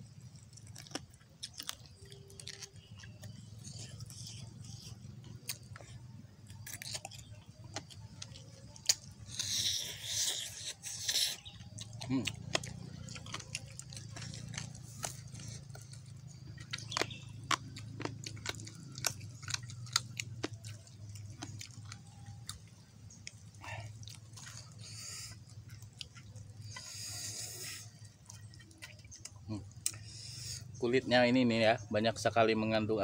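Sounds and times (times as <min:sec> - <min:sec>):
steady low hum: 0:00.0 - 0:33.0
person chewing and lip-smacking: 0:00.1 - 0:30.7.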